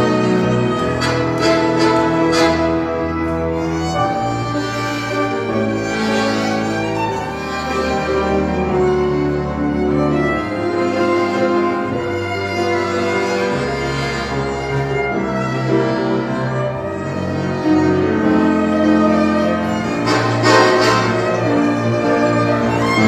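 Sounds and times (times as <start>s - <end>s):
chamber quartet playing a tango: 0.0s - 23.0s
violin melody: 0.0s - 23.0s.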